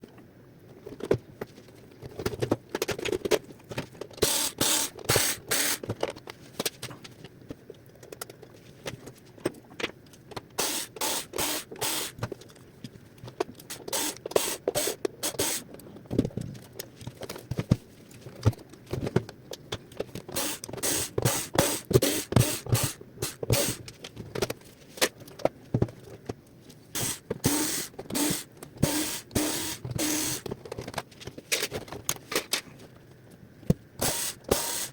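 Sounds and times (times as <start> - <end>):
plastic parts scraping and clicking: 0.6 - 34.9.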